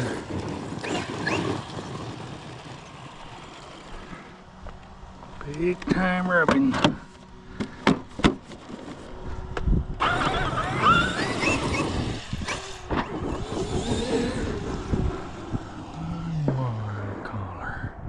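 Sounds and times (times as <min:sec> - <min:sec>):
electric motor whine: 0:00.0 - 0:06.5, 0:07.1 - 0:17.0
tires churning dirt: 0:00.0 - 0:18.0.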